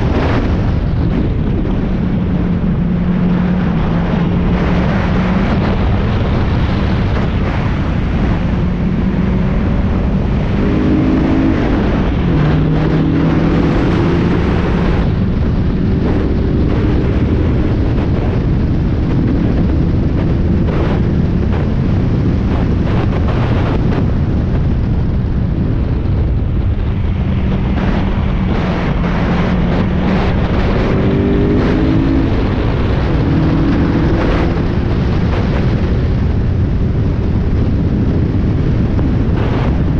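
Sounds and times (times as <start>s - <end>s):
race car engine at full speed: 0.0s - 39.9s
wind and road noise: 0.0s - 39.9s.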